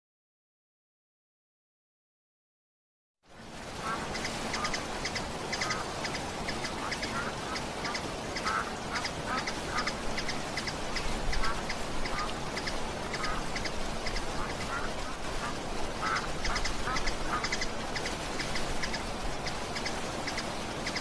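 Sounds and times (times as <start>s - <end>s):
waterfall rushing: 3.3s - 21.0s
ducks quacking: 3.8s - 21.0s.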